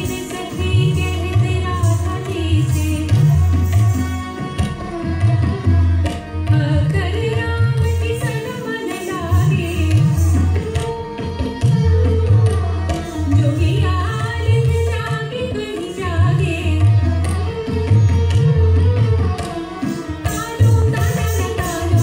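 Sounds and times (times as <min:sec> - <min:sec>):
tabla drumming: 0:00.0 - 0:22.0.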